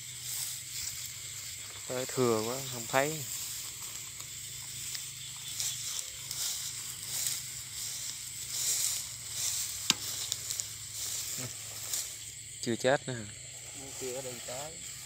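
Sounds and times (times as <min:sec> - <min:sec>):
rustling in dry grass: 0:00.0 - 0:12.6, 0:13.3 - 0:15.0
high insect drone: 0:00.0 - 0:15.0.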